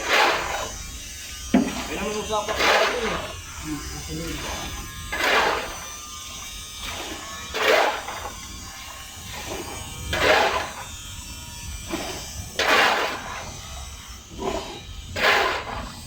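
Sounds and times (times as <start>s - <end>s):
rasping scraping strokes: 0.0s - 16.0s.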